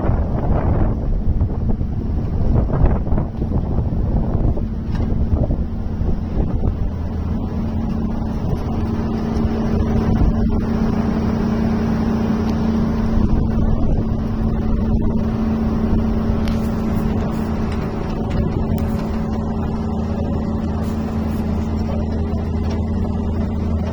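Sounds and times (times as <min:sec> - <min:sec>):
heavy machine engine droning: 0:00.0 - 0:23.9.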